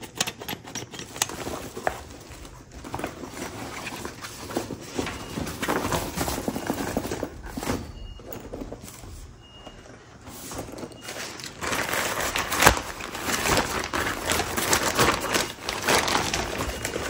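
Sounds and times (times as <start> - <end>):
backpack packaging rustling: 1.2 - 17.0.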